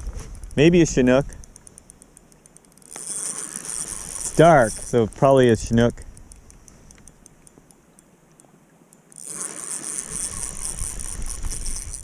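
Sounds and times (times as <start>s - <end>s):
reel whirring rattle: 0.0s - 12.0s
faint reel ticking: 0.3s - 12.0s.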